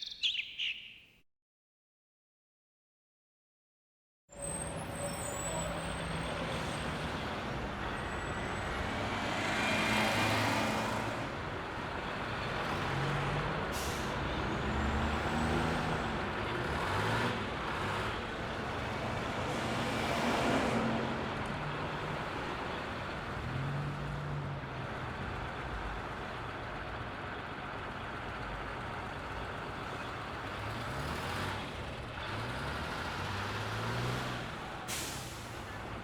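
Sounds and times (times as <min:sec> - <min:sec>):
heavy vehicles passing: 0:04.4 - 0:36.0.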